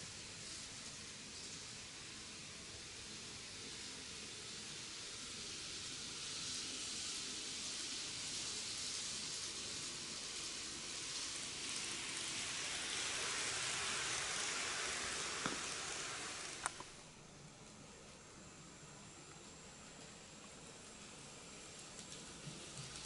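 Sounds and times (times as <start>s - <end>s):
model trains rolling hiss: 0.0s - 23.0s.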